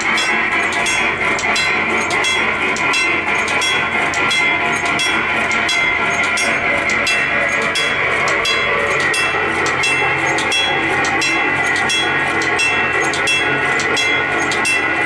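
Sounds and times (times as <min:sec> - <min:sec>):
sharp rail clicks: 0:00.0 - 0:15.0
train running on rails: 0:00.0 - 0:15.0.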